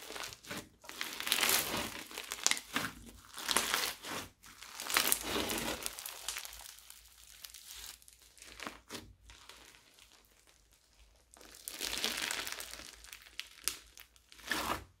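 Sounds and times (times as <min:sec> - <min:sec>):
foam slime crackling and crunching: 0:00.0 - 0:15.0.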